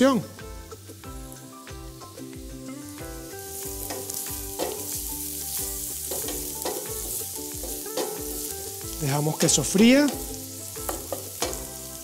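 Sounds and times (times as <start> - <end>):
soft background music: 0.0 - 12.0
vegetables sizzling in a pan: 0.0 - 12.0.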